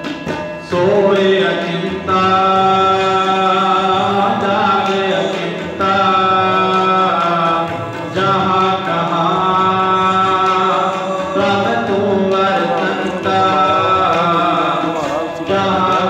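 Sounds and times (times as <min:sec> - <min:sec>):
harmonium: 0:00.0 - 0:16.0
men singing a hymn: 0:00.7 - 0:16.0.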